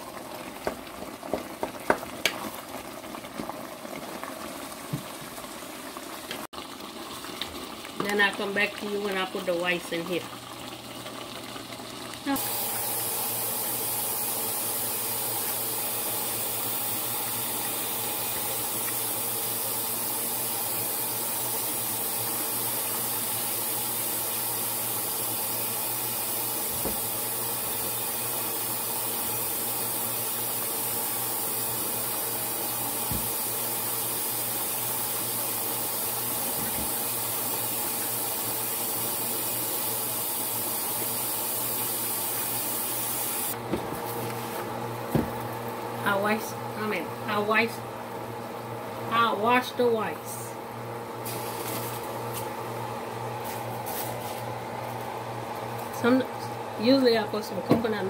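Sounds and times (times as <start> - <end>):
broth boiling and bubbling: 0.0 - 58.0.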